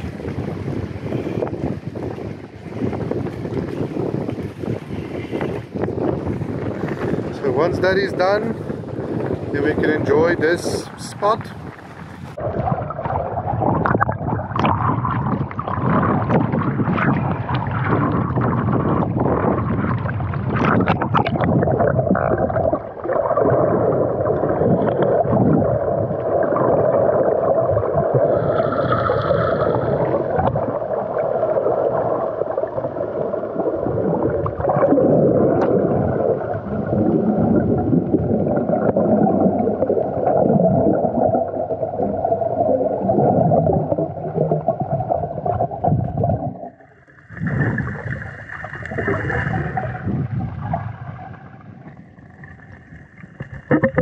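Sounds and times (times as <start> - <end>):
bubbles splashing: 0.0 - 54.0
muffled underwater rush: 0.0 - 54.0.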